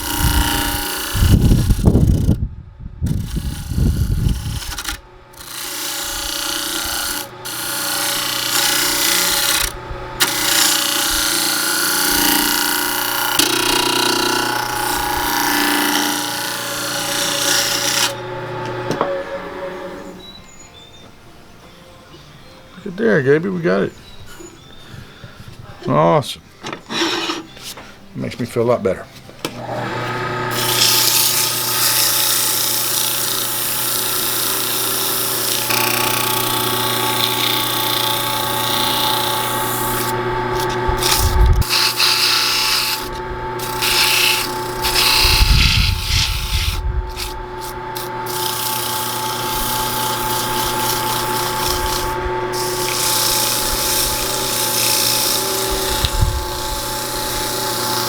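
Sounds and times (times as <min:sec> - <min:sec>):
tool scraping spinning wood: 0:00.0 - 0:02.4, 0:03.1 - 0:20.3, 0:26.8 - 0:27.7, 0:29.6 - 0:58.0
wood lathe motor hum: 0:00.0 - 0:02.4, 0:03.1 - 0:20.5, 0:29.5 - 0:58.0.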